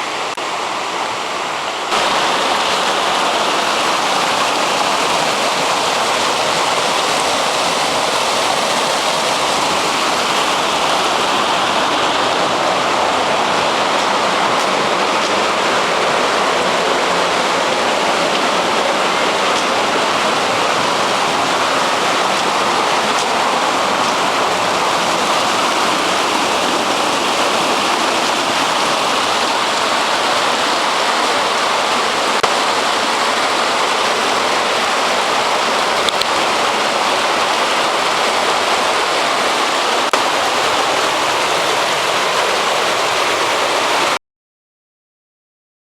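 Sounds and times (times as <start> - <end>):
rushing water: 0.0 - 44.2.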